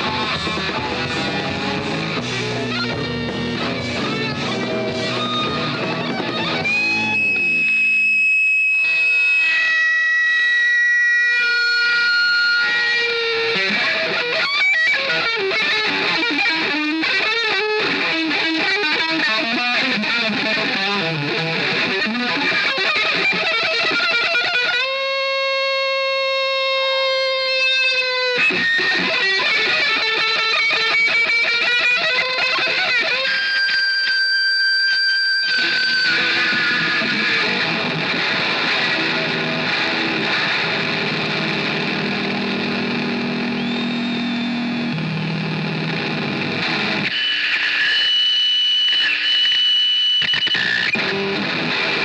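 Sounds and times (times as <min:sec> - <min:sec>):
distorted electric guitar solo: 0:00.0 - 0:52.0.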